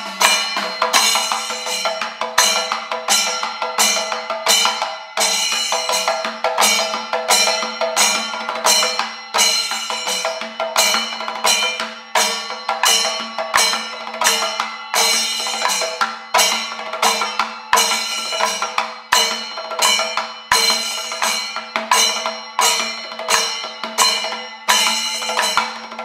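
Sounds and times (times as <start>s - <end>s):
temple drums and cymbals ensemble: 0.0s - 26.0s.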